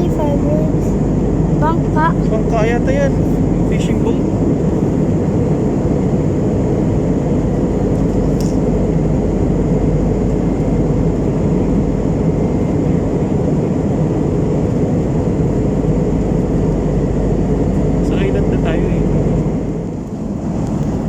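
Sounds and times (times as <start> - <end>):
jet engines and airflow rushing: 0.0 - 21.0.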